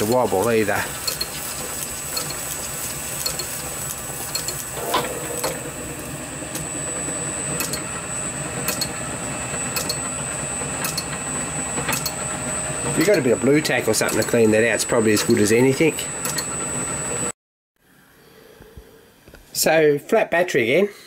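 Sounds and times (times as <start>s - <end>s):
metal lathe running: 0.0s - 17.3s.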